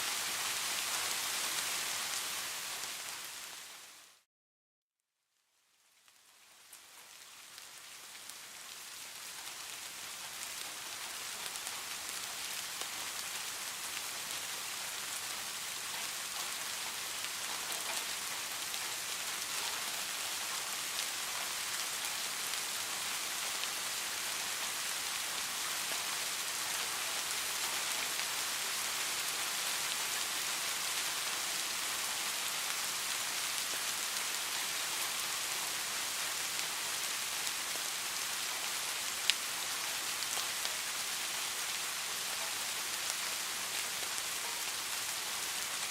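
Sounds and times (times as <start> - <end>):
steady rain falling: 0.0 - 4.3, 5.3 - 45.9.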